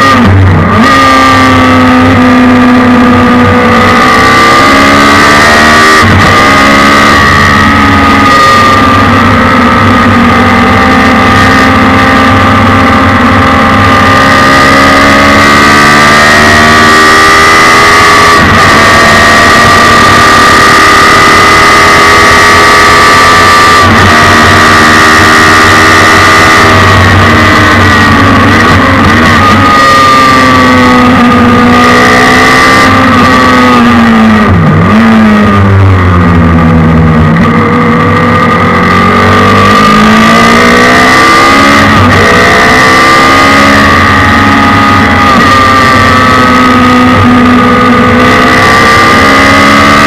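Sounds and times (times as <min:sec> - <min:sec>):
race car engine at high revs: 0:00.0 - 0:50.0.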